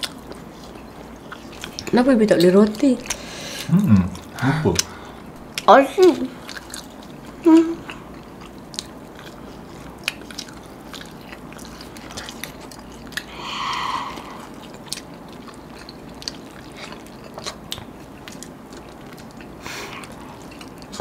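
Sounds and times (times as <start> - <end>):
chewing and biting food: 0.0 - 5.7, 6.3 - 13.4, 14.2 - 21.0.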